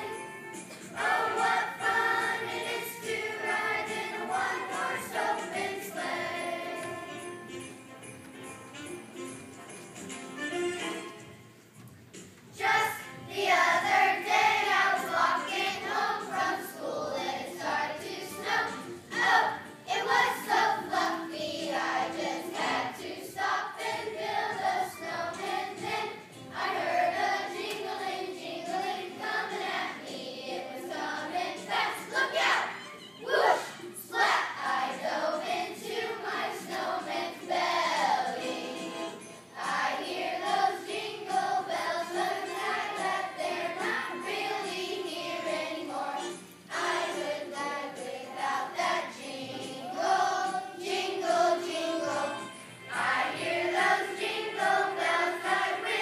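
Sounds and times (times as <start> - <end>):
children's choir singing: 0.0 - 7.6, 12.5 - 56.0.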